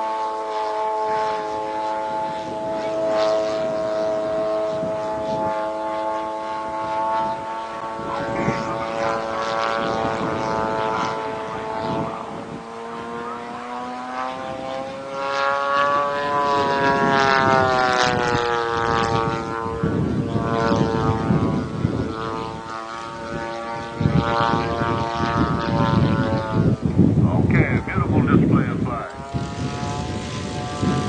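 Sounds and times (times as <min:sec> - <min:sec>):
model plane engine droning: 0:00.0 - 0:31.0.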